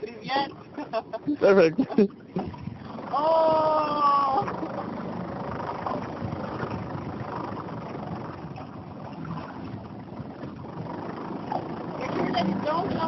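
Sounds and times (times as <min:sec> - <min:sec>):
motorboat engine rumble: 0:00.0 - 0:13.0
water noise: 0:00.0 - 0:13.0.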